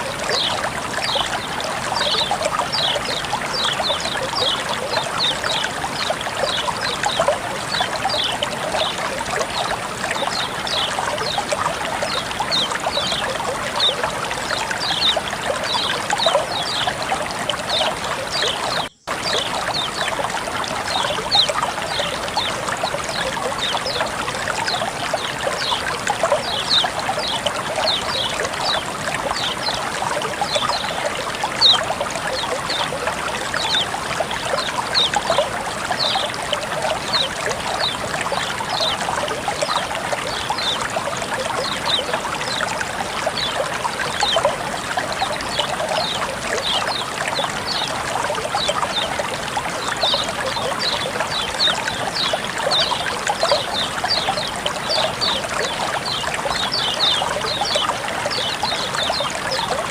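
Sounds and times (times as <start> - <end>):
water flowing and trickling: 0.0 - 59.9
water plinks and splashes: 0.0 - 59.9.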